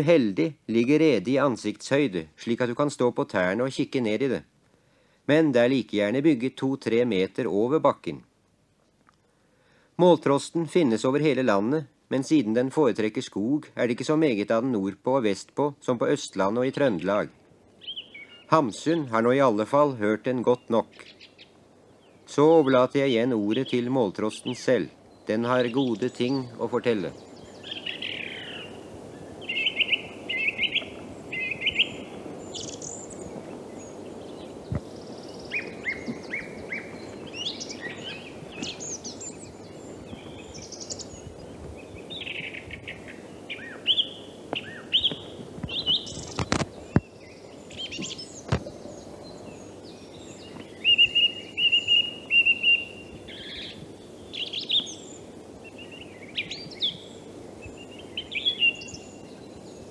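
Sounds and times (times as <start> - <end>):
low background noise: 0.0 - 59.9
song thrush singing: 0.0 - 59.9.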